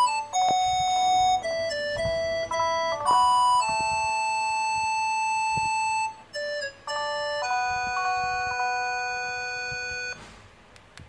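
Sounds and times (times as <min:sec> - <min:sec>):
synthesized phone ringtone: 0:00.0 - 0:10.2.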